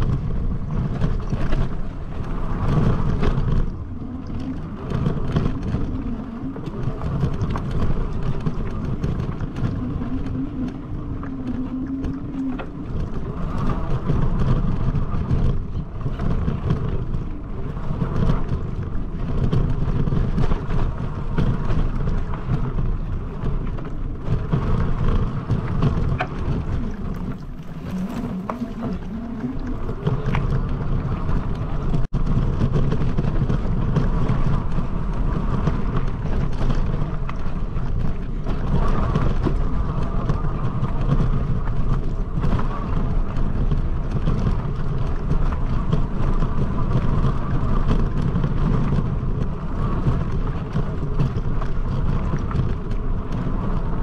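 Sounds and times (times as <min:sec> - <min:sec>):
bike rattles and clicks: 0:00.0 - 0:54.0
bike rolling over dirt: 0:00.0 - 0:54.0
wind buffeting microphone: 0:00.0 - 0:54.0.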